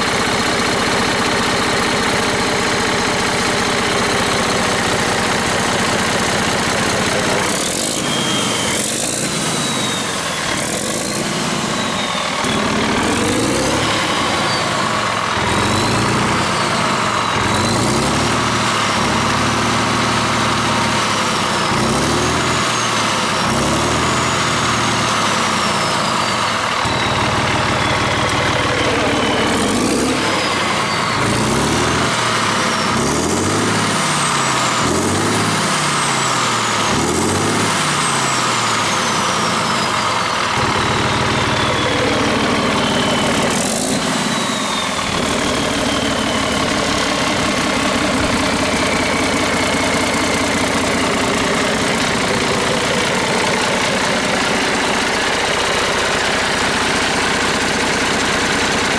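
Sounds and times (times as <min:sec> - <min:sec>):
diesel engine running: 0:00.0 - 0:58.9
turbo whistle: 0:06.9 - 0:18.2, 0:21.4 - 0:57.6.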